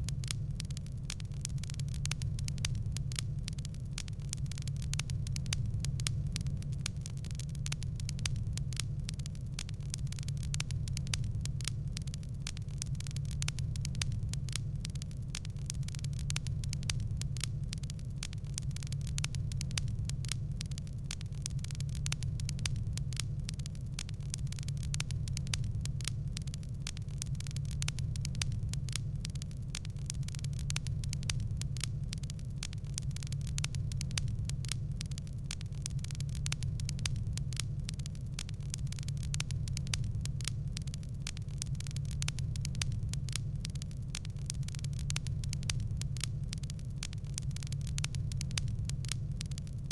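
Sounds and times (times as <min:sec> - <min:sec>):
fire crackling: 0:00.0 - 0:49.9
low fire rumble: 0:00.0 - 0:49.9.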